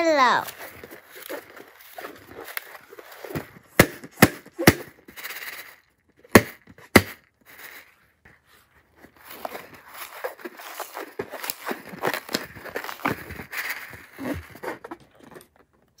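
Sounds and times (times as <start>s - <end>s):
rubbery balloon rustling: 0.0s - 16.0s.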